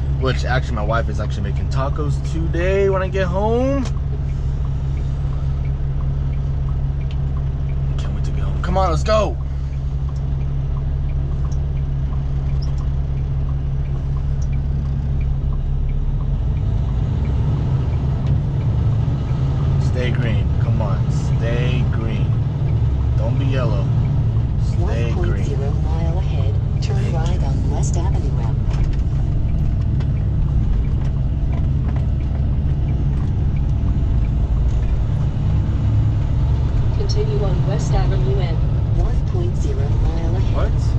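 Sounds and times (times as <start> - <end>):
diesel truck engine rumbling: 0.0 - 40.9
faint even ticking: 0.2 - 39.7.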